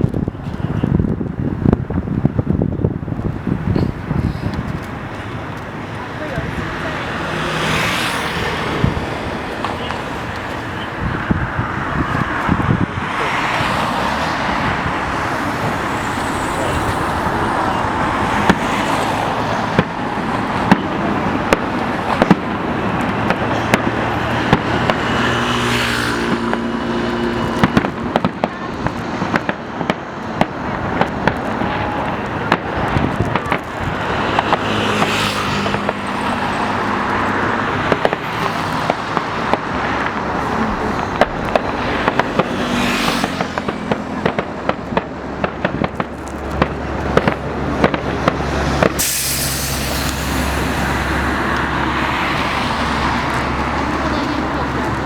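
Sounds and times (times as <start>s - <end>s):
fireworks cracking and popping: 0.0s - 55.0s
rumbling wash of noise: 0.0s - 55.0s.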